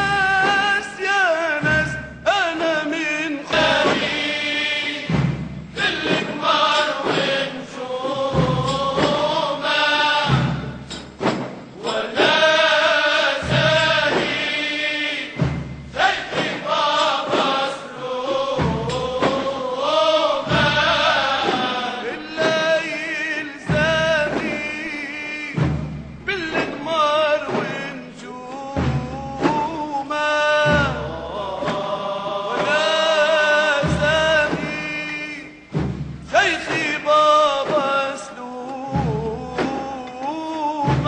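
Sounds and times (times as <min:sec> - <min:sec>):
low drum beat: 0:00.0 - 0:14.6, 0:15.2 - 0:33.0, 0:33.7 - 0:41.0.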